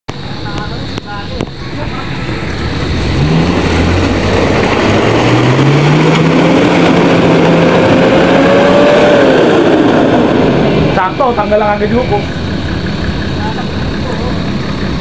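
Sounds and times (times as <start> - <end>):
pickup truck engine: 0.1 - 15.0.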